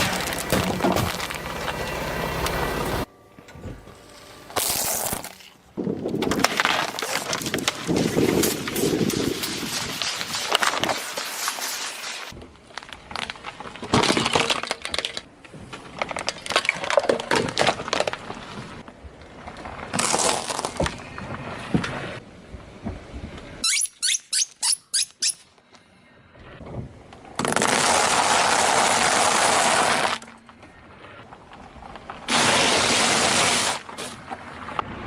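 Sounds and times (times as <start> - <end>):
objects crunching under car tyres: 0.0 - 3.1, 3.7 - 23.9, 26.8 - 35.0.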